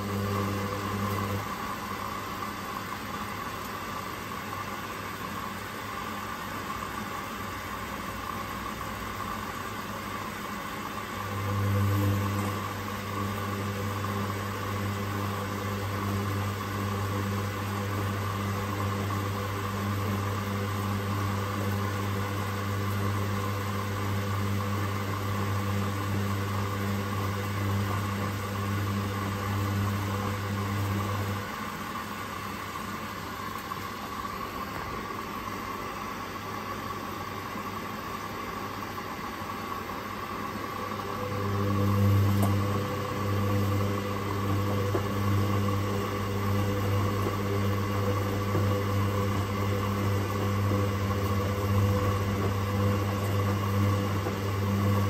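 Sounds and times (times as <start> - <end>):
washing machine drum humming: 0.0 - 37.7, 38.6 - 55.0.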